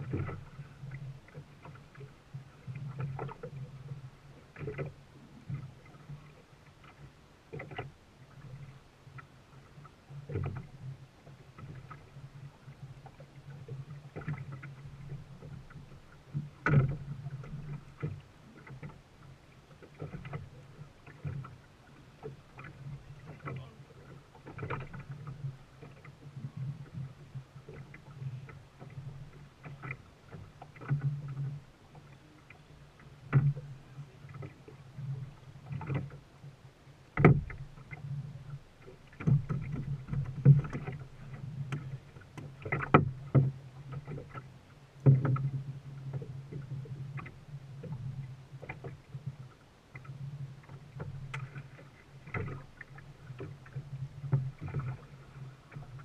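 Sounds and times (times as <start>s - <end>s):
water sloshing around boat: 0.0s - 56.0s.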